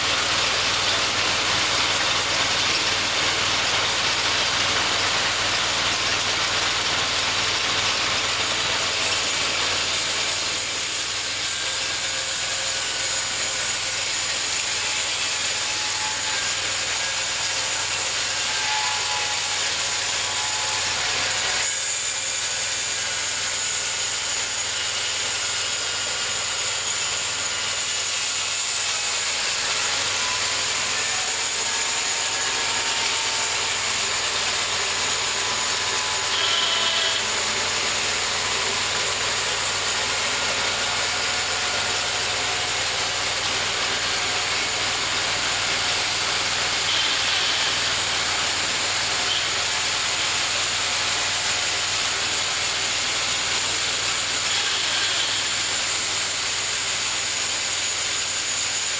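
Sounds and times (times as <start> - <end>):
bandsaw mill cutting log: 0.0 - 58.9.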